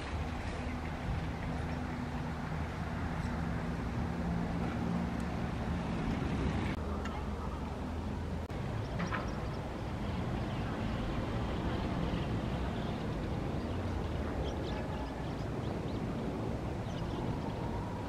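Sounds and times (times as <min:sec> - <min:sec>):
jet airliners rumbling overhead: 0:00.0 - 0:18.0.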